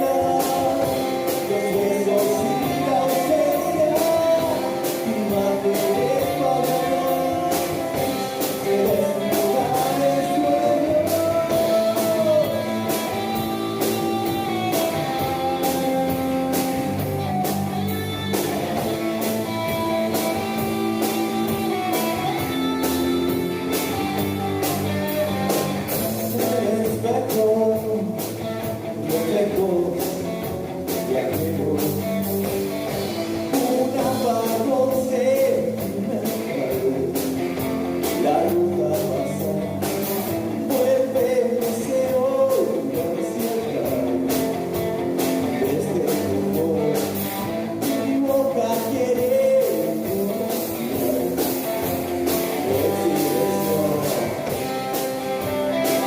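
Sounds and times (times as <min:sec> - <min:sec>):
bass guitar: 0:00.0 - 0:56.0
electric guitar: 0:00.0 - 0:56.0
steady drum beat: 0:00.0 - 0:56.0.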